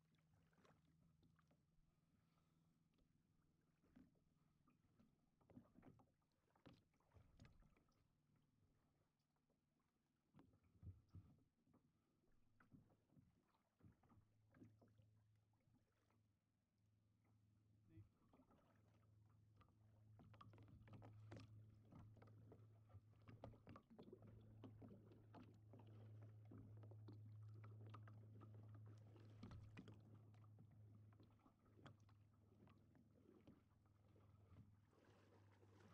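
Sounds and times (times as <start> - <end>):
kayak paddling knocks and water: 0.0 - 8.9, 10.1 - 16.3, 17.0 - 35.9.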